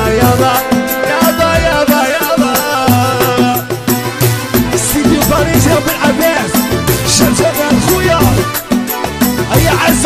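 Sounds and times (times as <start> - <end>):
song with percussion beat: 0.0 - 10.0.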